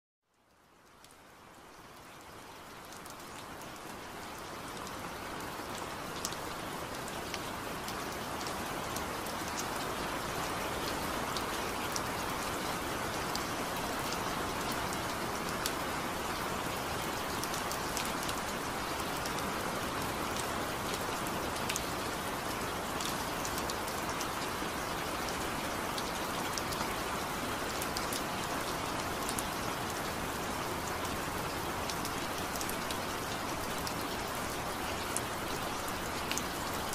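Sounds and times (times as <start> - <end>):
steady rain: 0.2 - 36.9.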